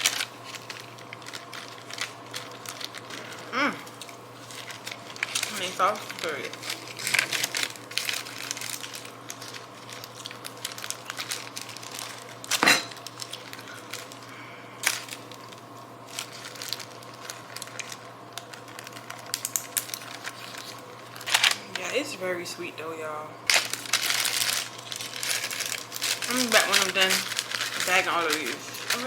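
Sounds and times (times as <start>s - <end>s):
light crinkling: 0.0s - 22.0s, 23.5s - 29.0s.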